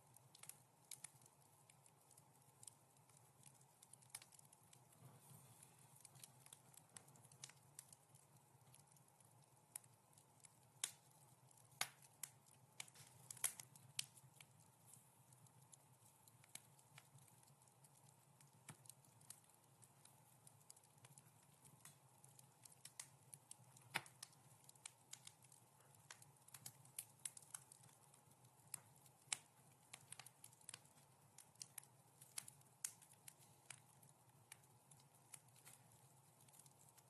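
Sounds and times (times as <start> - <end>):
faint steady hiss: 0.0 - 37.0
wood fire crackling: 0.0 - 37.0.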